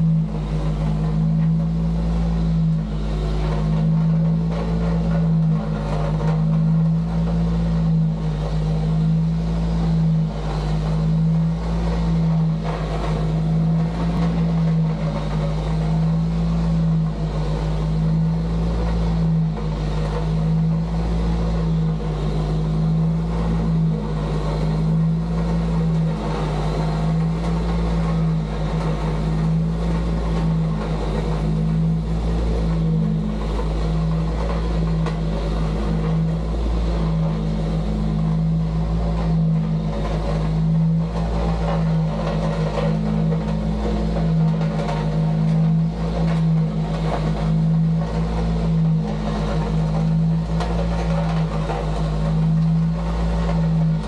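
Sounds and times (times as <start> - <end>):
heavy machine engine humming: 0.0 - 54.0.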